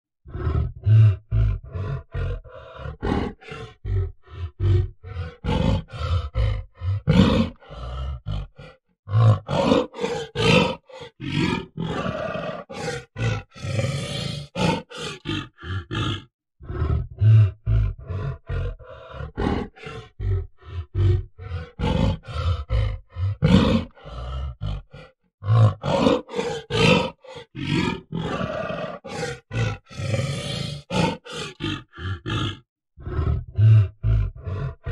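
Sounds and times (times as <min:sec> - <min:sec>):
gorilla grunting: 0:00.3 - 0:34.9.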